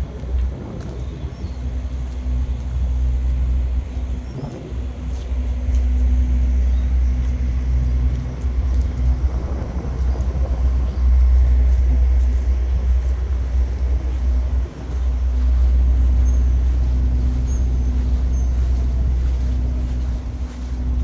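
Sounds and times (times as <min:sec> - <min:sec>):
faint steady hum: 0:00.0 - 0:21.0
semi truck engines rumbling: 0:00.0 - 0:21.0.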